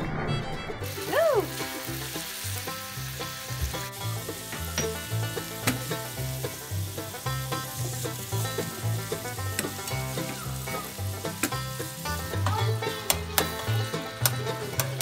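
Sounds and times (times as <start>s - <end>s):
sausage sizzling in a skillet: 0.8s - 15.0s.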